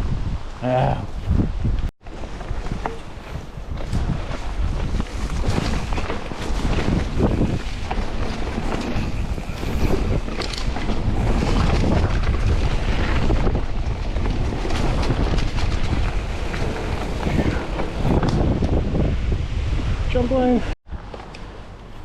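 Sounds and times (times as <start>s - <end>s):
wind buffeting microphone: 0.0s - 21.1s.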